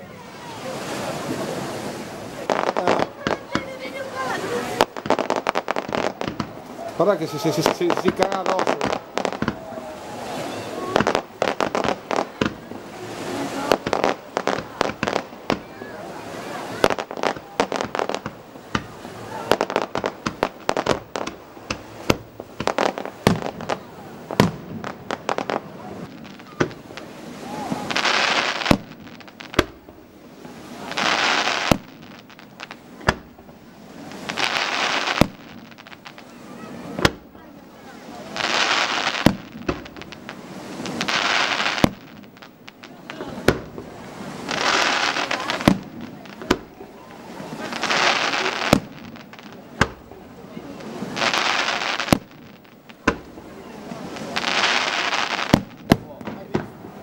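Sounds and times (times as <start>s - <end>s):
fireworks bangs and crackling: 0.0s - 57.0s
hissing rush: 0.0s - 57.0s.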